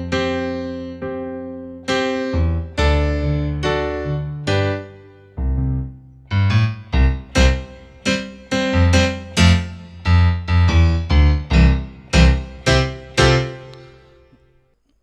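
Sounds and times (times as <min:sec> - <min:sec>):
piano chords: 0:00.0 - 0:14.6.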